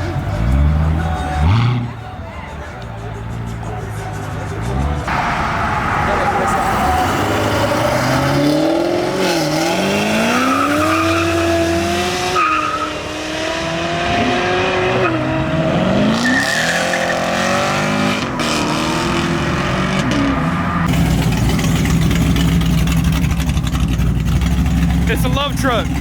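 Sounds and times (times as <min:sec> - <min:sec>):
car engine revving hard: 0:05.1 - 0:26.0.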